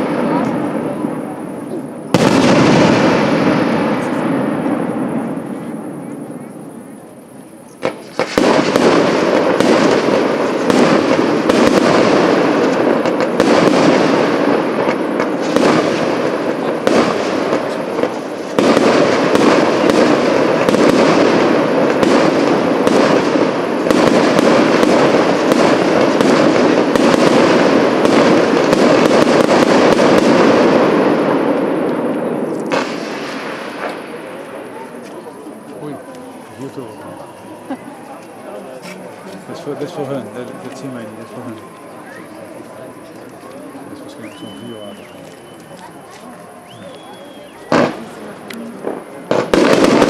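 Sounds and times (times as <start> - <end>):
fireworks popping and crackling: 0.0 - 6.6, 7.4 - 50.0.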